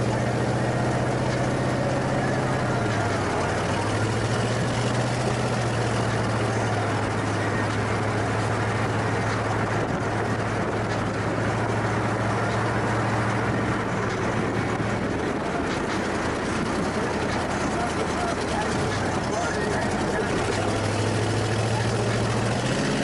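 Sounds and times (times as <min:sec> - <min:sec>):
car engine drone: 0:00.0 - 0:23.0
tyre and wind road noise: 0:00.0 - 0:23.0.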